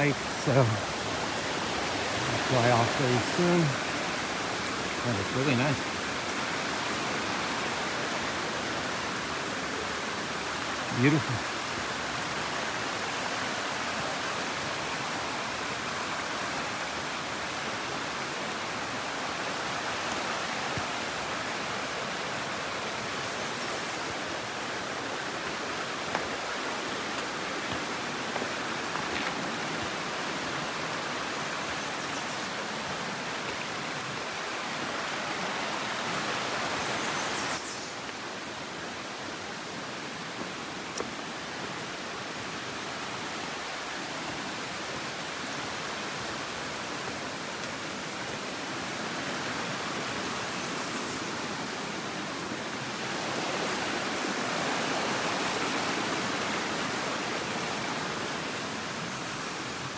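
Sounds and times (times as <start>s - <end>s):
creek rushing: 0.0s - 59.9s.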